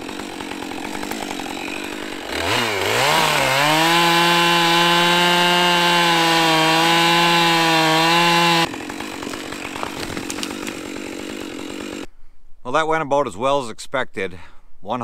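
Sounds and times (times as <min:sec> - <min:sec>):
chainsaw cutting wood: 0:00.0 - 0:12.1.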